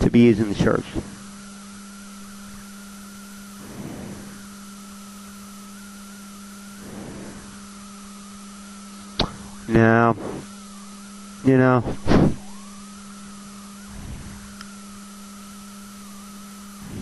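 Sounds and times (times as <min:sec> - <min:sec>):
electrical hum: 0:00.0 - 0:17.0
thin high whine and hiss: 0:00.0 - 0:17.0.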